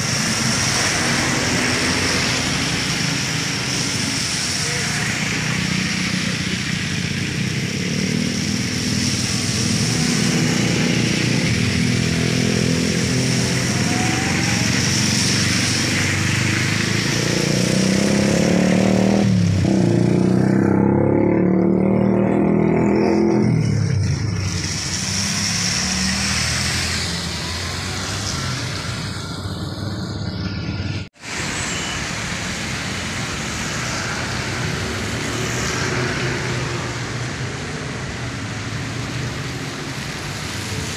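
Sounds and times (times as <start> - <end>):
rain: 0.0 - 20.8, 21.9 - 40.9
tyres hissing on wet road: 0.0 - 40.9
vehicle engines passing: 0.0 - 40.9.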